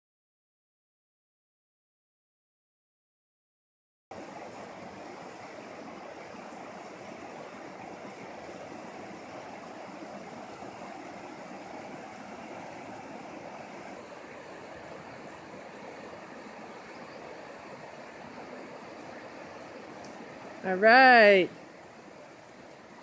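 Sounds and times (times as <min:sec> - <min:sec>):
river rushing over rocks: 0:04.1 - 0:23.0.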